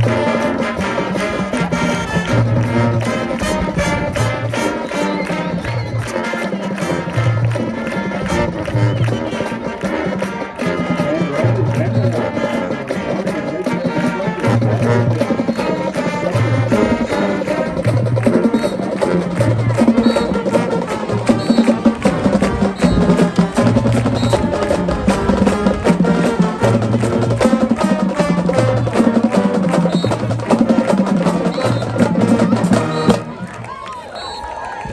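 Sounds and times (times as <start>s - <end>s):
low brass notes: 0.0s - 33.9s
drumline clicking beat: 0.0s - 34.8s
marching band playing: 0.0s - 34.9s.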